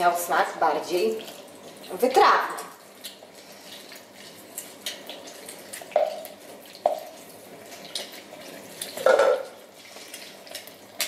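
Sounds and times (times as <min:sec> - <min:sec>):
juice squishing and dripping: 0:01.1 - 0:11.0.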